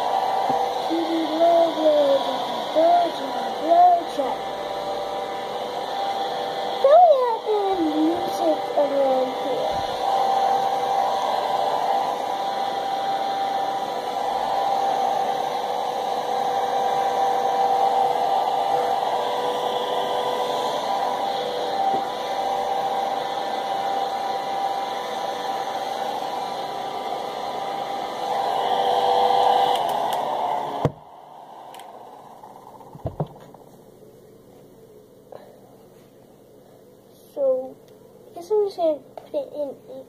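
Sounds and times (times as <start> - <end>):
hair dryer running: 0.0 - 39.2.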